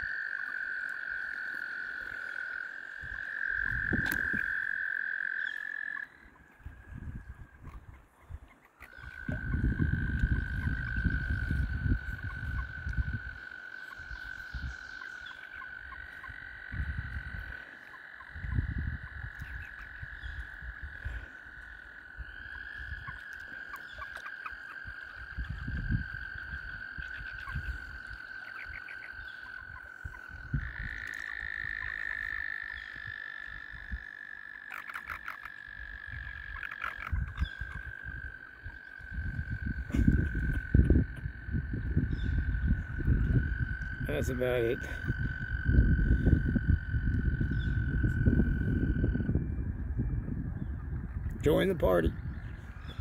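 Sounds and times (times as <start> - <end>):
toads trilling: 0.0 - 53.0.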